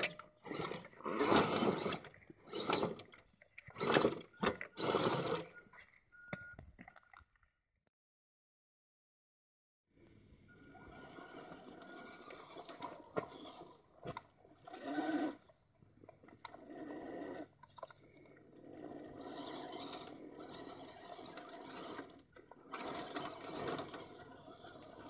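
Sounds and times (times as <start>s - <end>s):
rc truck motors whirring: 0.0s - 6.1s, 10.1s - 25.0s.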